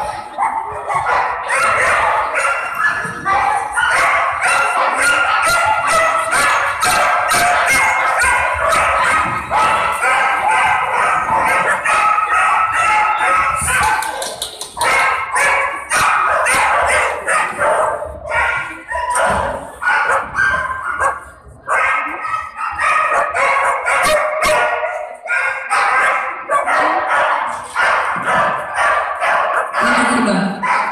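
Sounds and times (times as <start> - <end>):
dogs barking: 0.0 - 30.9.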